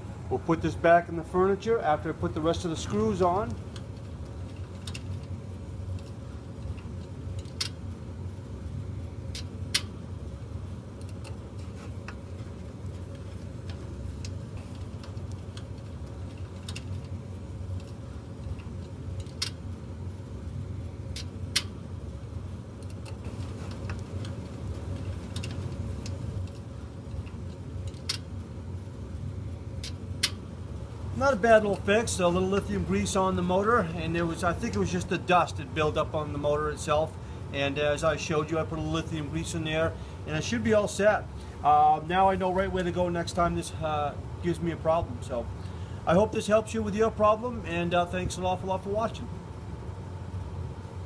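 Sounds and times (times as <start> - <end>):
blower fan humming: 0.0 - 51.0.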